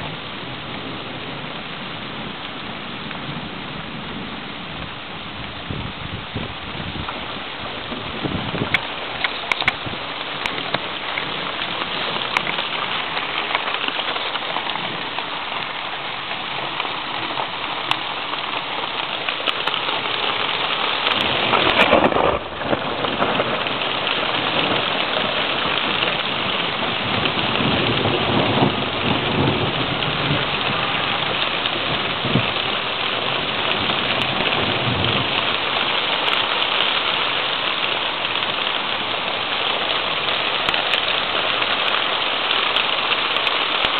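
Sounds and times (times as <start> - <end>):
rain pouring: 0.0 - 43.9
thunder rumbling: 0.0 - 43.9.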